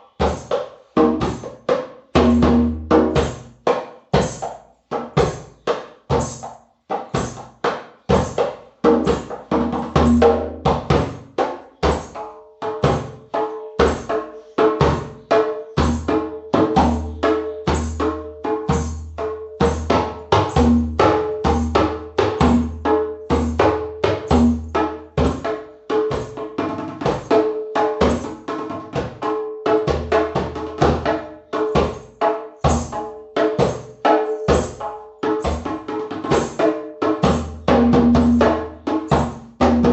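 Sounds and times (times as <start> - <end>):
drum and percussion beat: 0.0 - 39.9.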